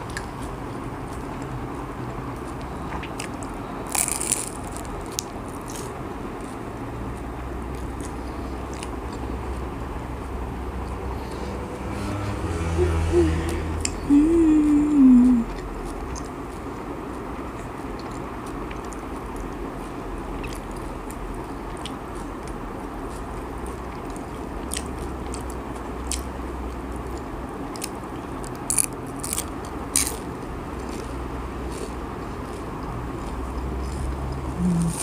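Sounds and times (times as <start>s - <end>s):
chewing crunchy food: 0.0s - 11.5s, 15.5s - 35.0s.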